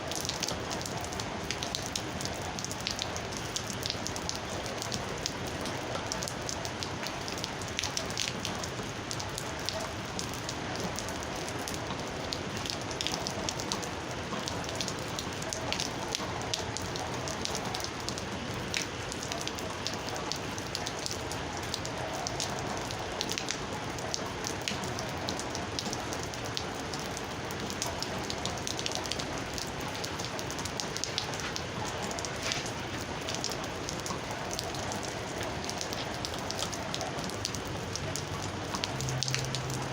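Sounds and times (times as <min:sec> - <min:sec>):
steady rain: 0:00.0 - 0:39.9
raindrops tapping sharply: 0:01.6 - 0:39.9.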